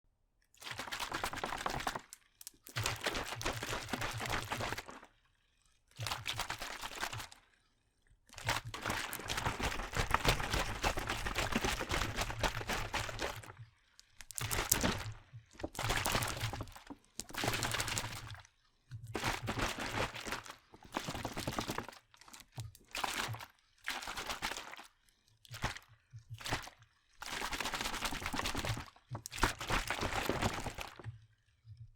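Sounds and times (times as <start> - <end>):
water sloshing in plastic bottle: 0.6 - 5.1, 5.9 - 7.4, 8.3 - 31.9.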